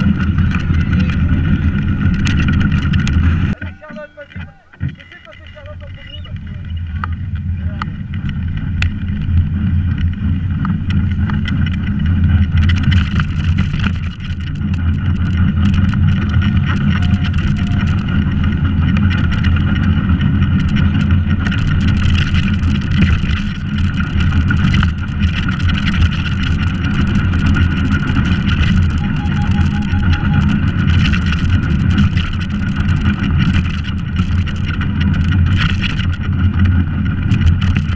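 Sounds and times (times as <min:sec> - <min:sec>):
rattles and knocks: 0:00.0 - 0:37.9
wheels rumbling on asphalt: 0:00.0 - 0:37.9.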